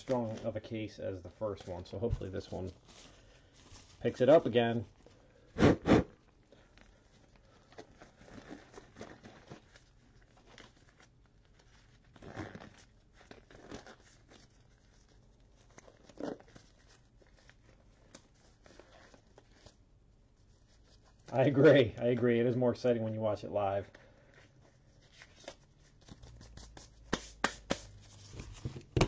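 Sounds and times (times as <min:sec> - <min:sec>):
rustling and handling noises: 0:00.0 - 0:05.5, 0:06.2 - 0:29.0.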